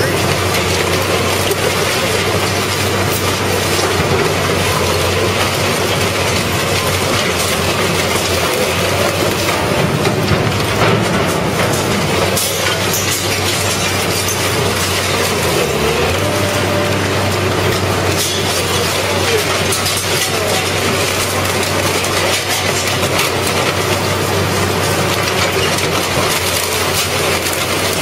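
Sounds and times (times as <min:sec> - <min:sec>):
shredder crunching sheet metal: 0:00.0 - 0:28.0.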